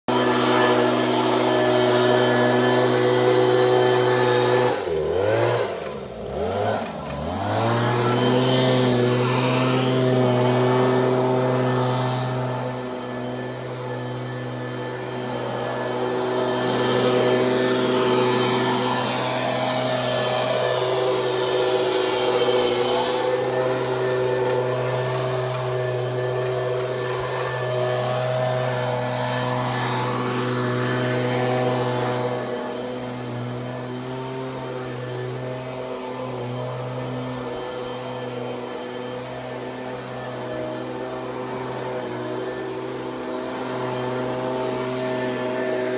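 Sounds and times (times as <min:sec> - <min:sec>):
motor humming: 0:00.0 - 0:45.9.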